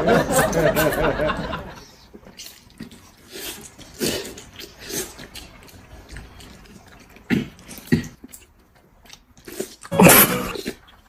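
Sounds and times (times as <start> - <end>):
noodles being slurped and chewed: 1.8 - 11.0.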